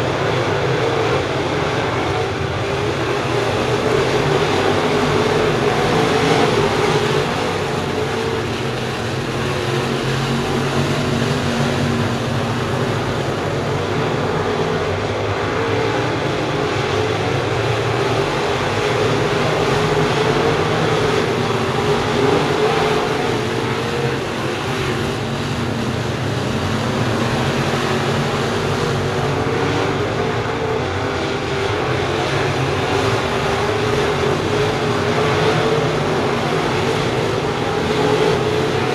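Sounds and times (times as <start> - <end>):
race car engines droning: 0.0 - 38.9.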